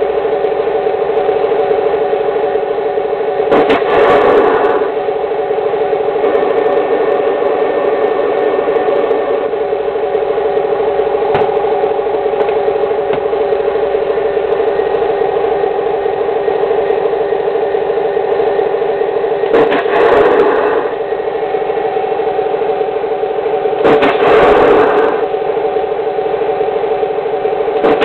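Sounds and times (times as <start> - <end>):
noisy burst: 0.0 - 26.6, 27.2 - 28.0.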